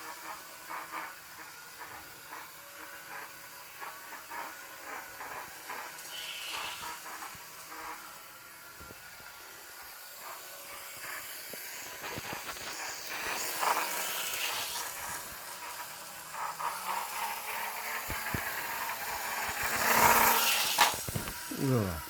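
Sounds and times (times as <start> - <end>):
model locomotive whirring: 0.0 - 22.0.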